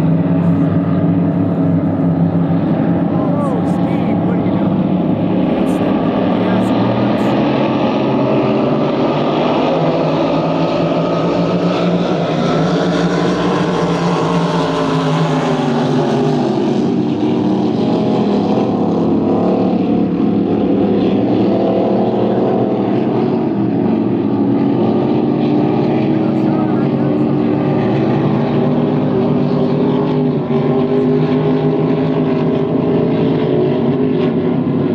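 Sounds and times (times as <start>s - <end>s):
racing boat engines passing: 0.0s - 34.9s.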